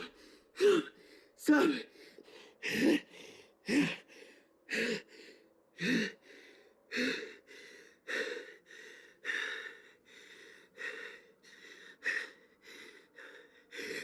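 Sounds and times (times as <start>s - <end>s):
man breathing hard in gasps: 0.0s - 14.0s.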